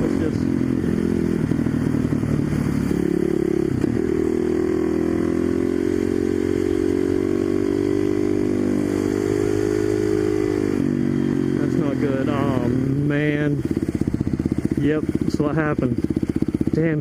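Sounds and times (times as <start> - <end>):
single-cylinder engine running: 0.0 - 17.0.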